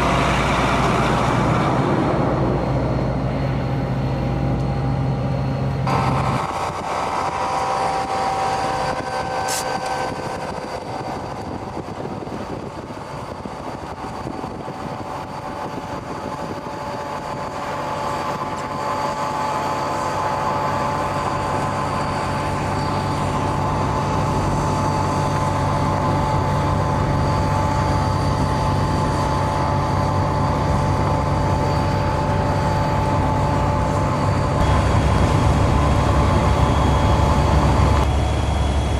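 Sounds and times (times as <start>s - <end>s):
snow plow train engine running: 0.0s - 38.9s.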